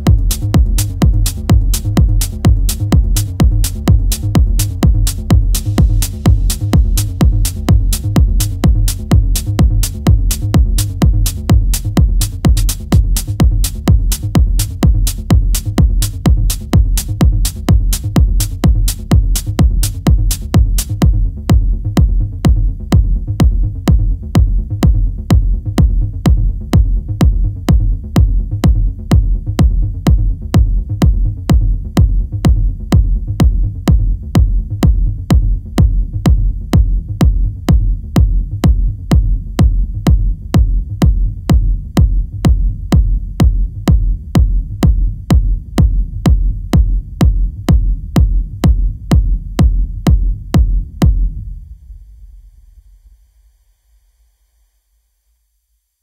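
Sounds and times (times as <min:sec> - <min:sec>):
kick drum beat: 0:00.0 - 0:51.7
deep bass: 0:00.0 - 0:53.3.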